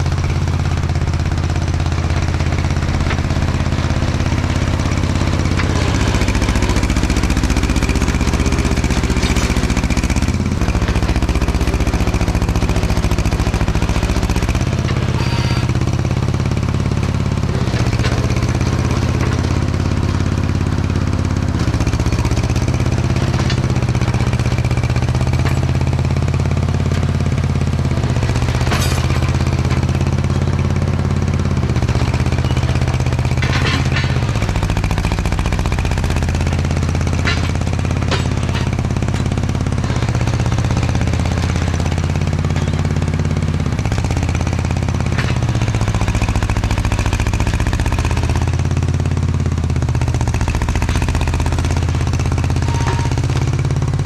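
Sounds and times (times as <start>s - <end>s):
earth-moving machine engine: 0.0s - 54.0s
metal clanks and knocks: 1.8s - 21.0s, 22.2s - 27.2s, 28.2s - 30.8s, 31.8s - 48.5s, 50.6s - 54.0s.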